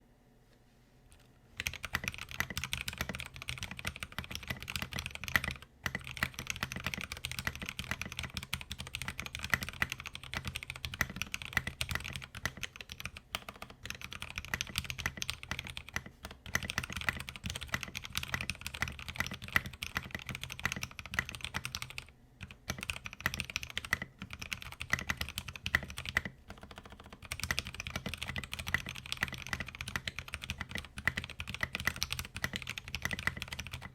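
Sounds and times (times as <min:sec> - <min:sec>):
fast typing on mechanical keyboard: 0:01.6 - 0:33.9.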